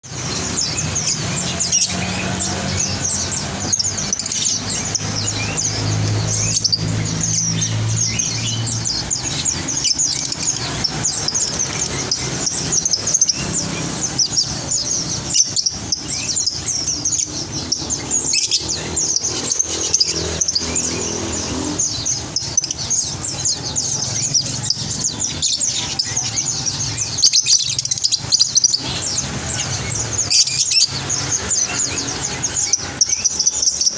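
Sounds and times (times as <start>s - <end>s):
birds twittering: 0.0s - 33.9s.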